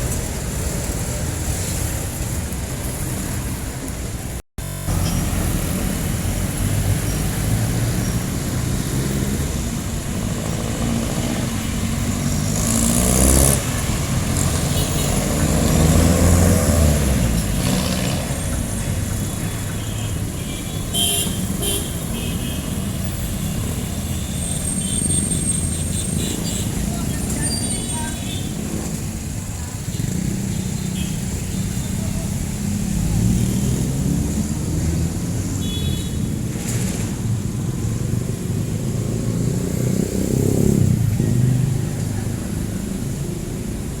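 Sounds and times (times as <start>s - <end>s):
vehicle engines passing: 0.0s - 44.0s.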